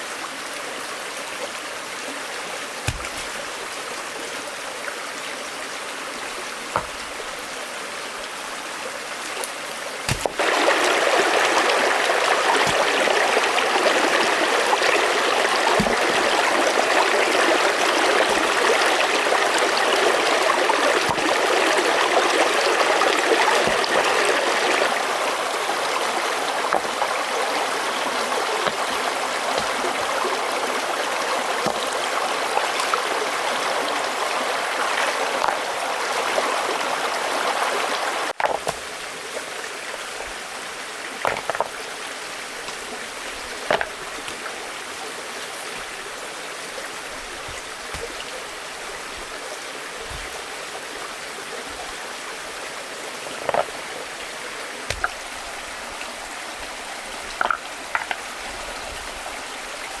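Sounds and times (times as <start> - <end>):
water flowing: 0.0 - 60.0.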